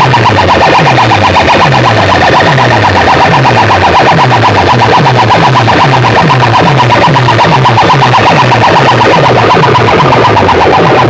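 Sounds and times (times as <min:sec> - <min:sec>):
loud electronic dance music: 0:00.0 - 0:11.0.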